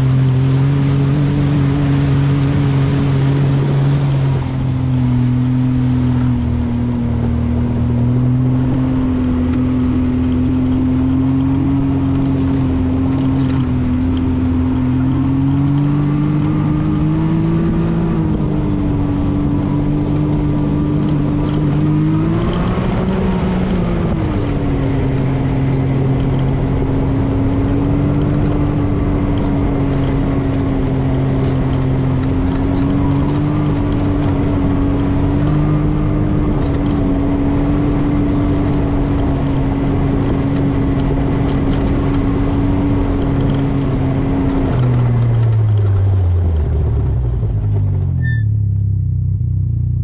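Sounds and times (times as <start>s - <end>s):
vehicle engine droning: 0.0s - 50.0s.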